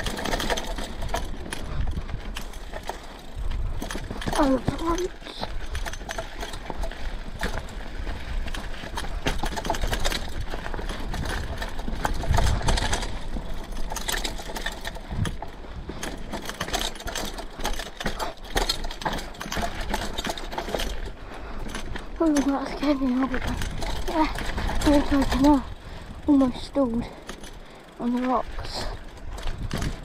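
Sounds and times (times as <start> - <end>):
mountain bike clattering over rocks: 0.0 - 30.0.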